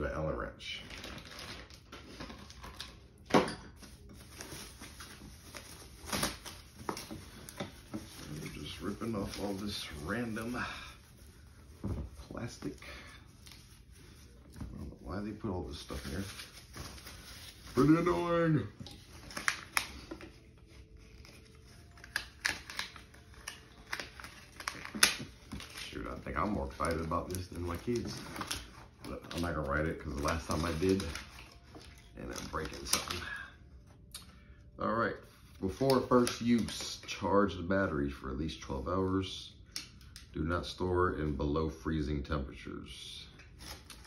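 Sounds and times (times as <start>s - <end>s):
plastic packaging rustling: 0.6s - 34.0s, 35.3s - 37.6s, 43.3s - 44.0s.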